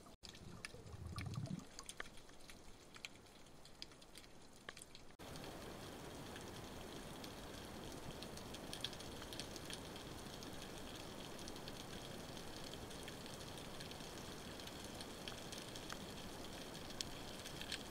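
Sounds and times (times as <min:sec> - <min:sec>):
faint clicks and crackles: 0:00.0 - 0:17.9.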